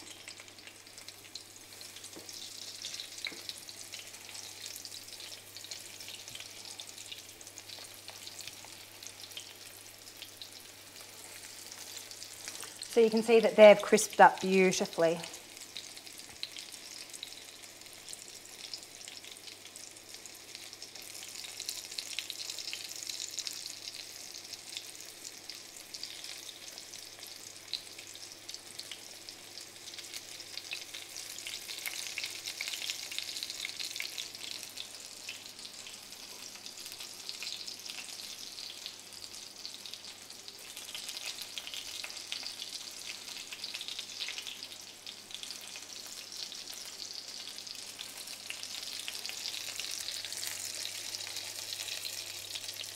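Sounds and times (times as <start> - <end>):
fish frying in oil: 0.0 - 52.9.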